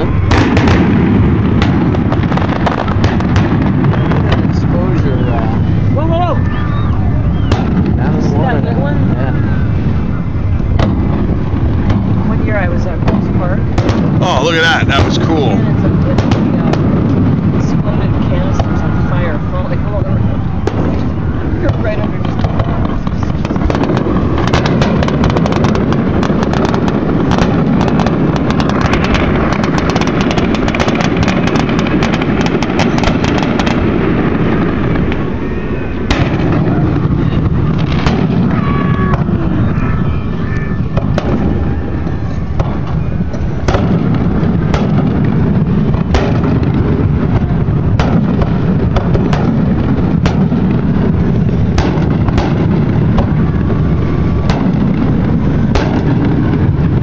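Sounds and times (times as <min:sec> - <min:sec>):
fireworks crackling: 0:00.0 - 0:57.0
steady low rumble: 0:00.0 - 0:57.0.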